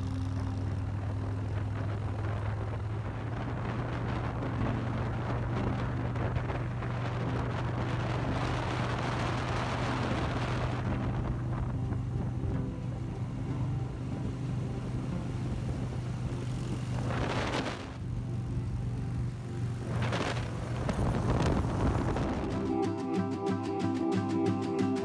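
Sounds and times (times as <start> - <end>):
motorcycle engine cruising: 0.0 - 23.1
wind rushing over microphone: 0.8 - 18.2, 19.2 - 22.8.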